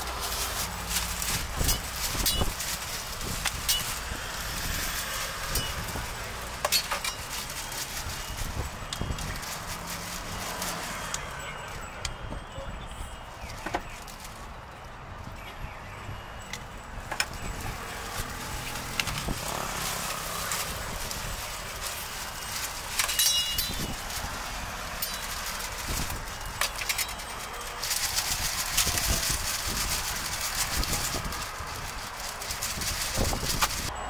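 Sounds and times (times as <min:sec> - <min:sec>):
utensils clicking and knocking: 0:00.0 - 0:11.2, 0:16.5 - 0:33.9.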